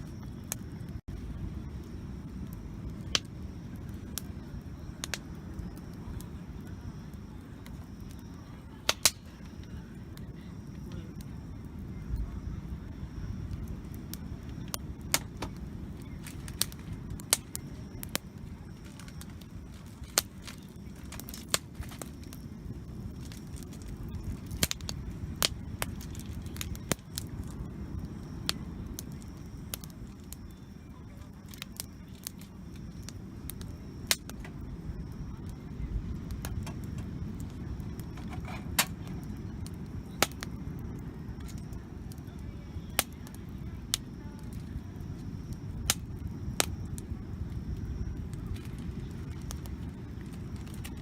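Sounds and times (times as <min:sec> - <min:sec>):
fire low rumble: 0:00.0 - 0:51.0
wood fire pops and cracks: 0:00.0 - 0:51.0.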